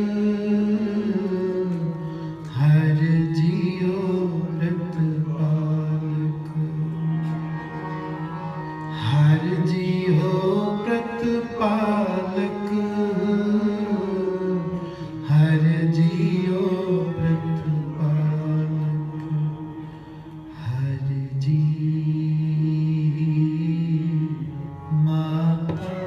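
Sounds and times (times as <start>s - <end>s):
harmonium drone: 0.0s - 26.0s.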